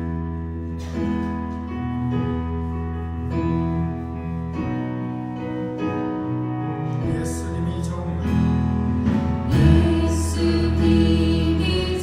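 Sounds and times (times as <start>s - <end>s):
bass: 0.0s - 12.0s
keyboard chords: 0.0s - 12.0s.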